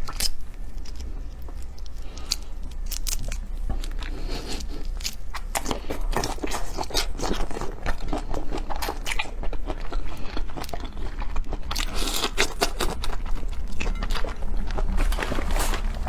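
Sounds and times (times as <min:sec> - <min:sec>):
biting and chewing seafood: 0:00.0 - 0:16.0.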